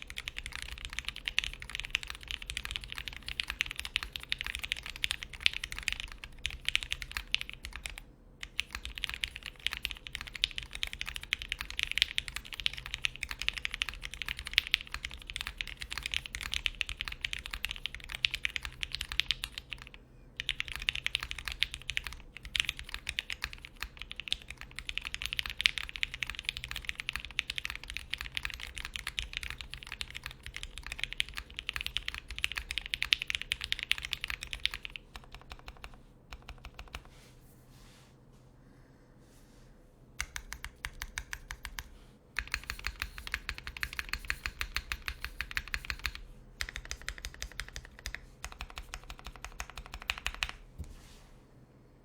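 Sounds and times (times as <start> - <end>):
typing on mechanical keyboard: 0.0 - 37.1, 40.2 - 50.6.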